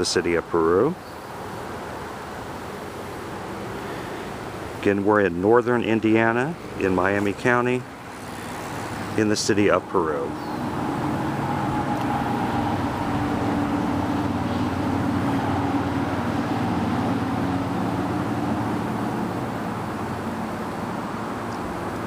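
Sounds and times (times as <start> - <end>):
road traffic droning: 0.0 - 22.0.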